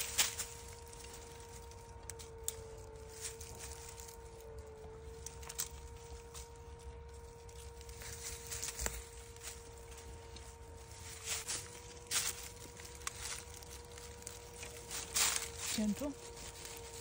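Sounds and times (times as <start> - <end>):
dry leaves crackling underfoot: 0.0 - 17.0
faint steady hum: 0.0 - 17.0.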